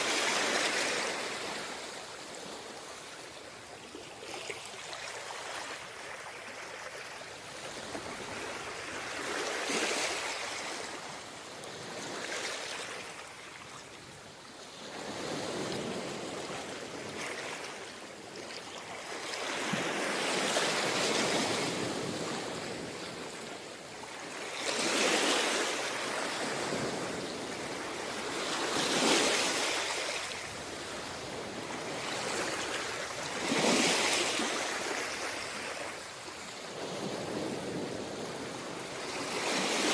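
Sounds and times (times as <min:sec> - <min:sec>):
sea waves breaking on beach: 0:00.0 - 0:14.1, 0:14.7 - 0:39.9.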